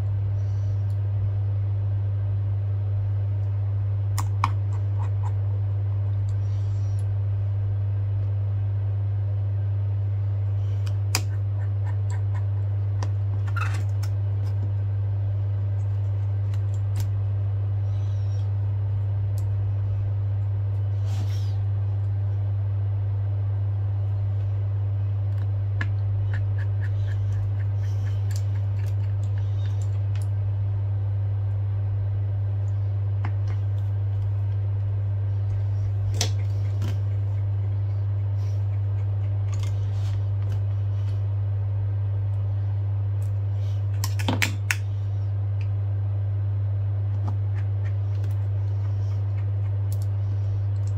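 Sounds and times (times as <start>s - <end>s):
loud low hum: 0.0s - 50.9s.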